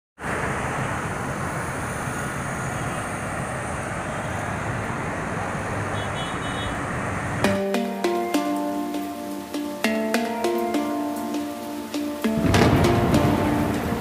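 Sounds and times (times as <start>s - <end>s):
road traffic: 0.2s - 14.0s.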